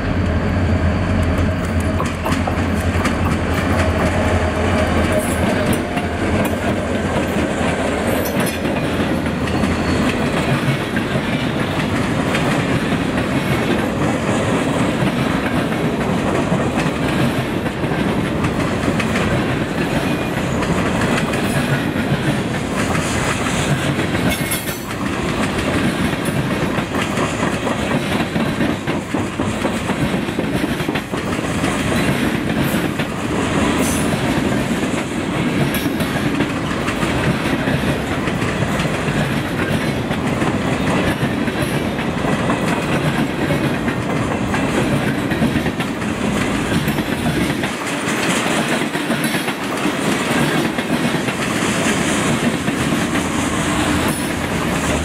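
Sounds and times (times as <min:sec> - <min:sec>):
train wheels rumbling on rails: 0:00.0 - 0:55.0
wheels clicking on rail joints: 0:01.2 - 0:55.0.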